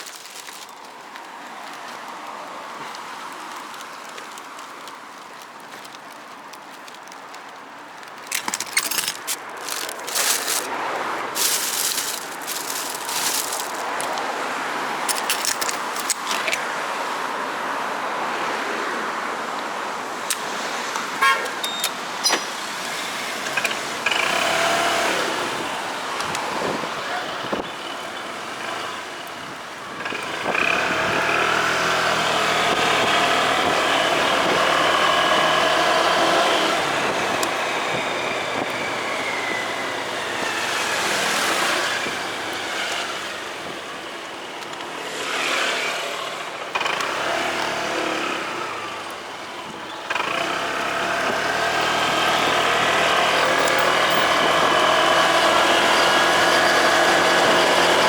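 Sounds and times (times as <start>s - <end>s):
rushing traffic noise: 0.0s - 58.0s.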